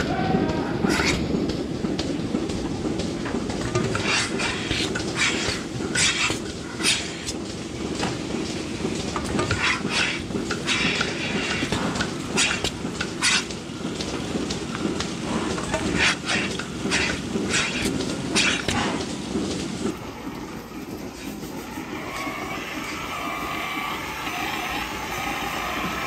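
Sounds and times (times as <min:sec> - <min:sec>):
milking machinery rumbling: 0:00.0 - 0:26.0.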